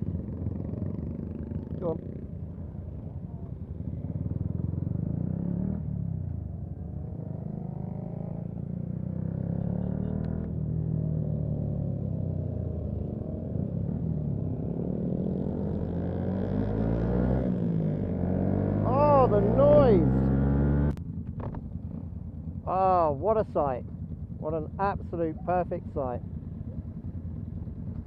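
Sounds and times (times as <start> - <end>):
motorcycle engine accelerating: 0.0 - 22.7.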